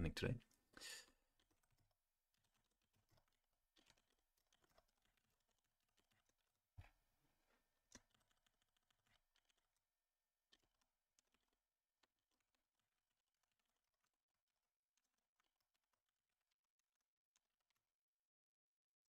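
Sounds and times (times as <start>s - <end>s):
faint keyboard typing: 1.3s - 18.0s.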